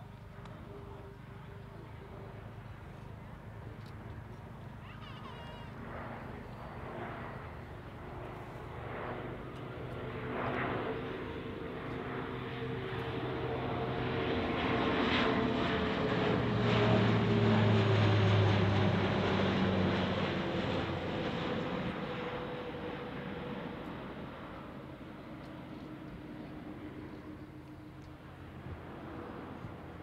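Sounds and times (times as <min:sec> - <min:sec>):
turboprop aircraft passing overhead: 0:00.0 - 0:30.0.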